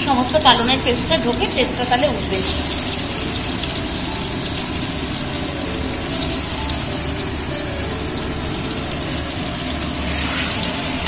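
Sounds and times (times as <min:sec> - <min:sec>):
paneer sizzling in hot oil: 0:00.0 - 0:11.0.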